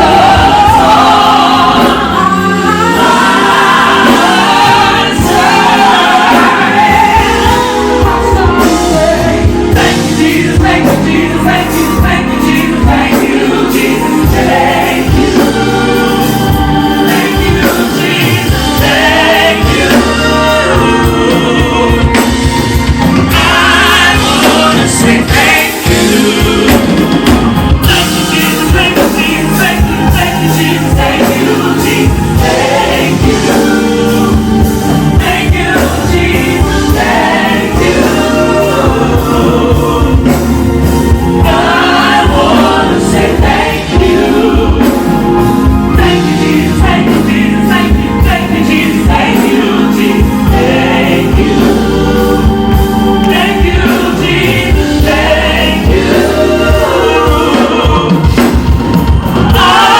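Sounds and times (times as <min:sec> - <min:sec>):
bass line: 0:00.0 - 0:59.9
gospel choir singing: 0:00.0 - 0:59.9.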